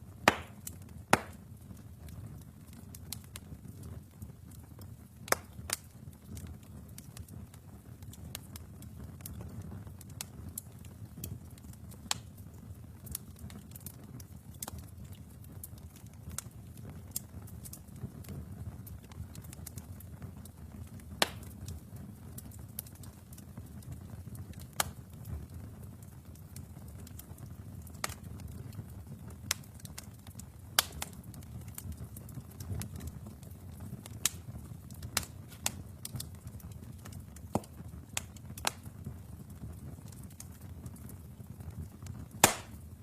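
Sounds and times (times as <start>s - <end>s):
flames rumbling: 0.0s - 43.0s
logs crackling and popping: 0.0s - 43.0s.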